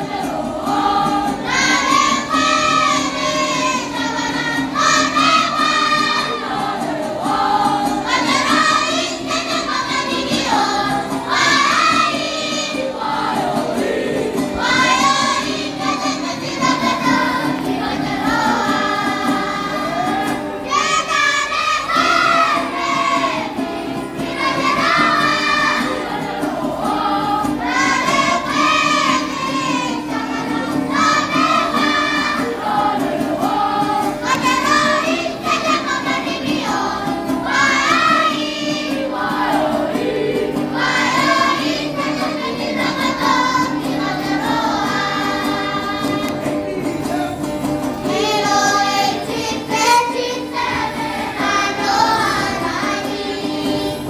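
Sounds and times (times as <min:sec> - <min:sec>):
children's and women's choir singing: 0:00.0 - 0:54.0.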